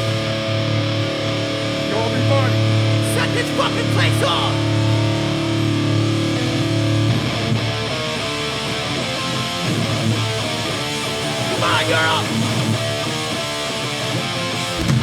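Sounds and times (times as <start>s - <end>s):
distorted electric guitar: 0.0s - 15.0s
punk band playing live: 0.0s - 15.0s.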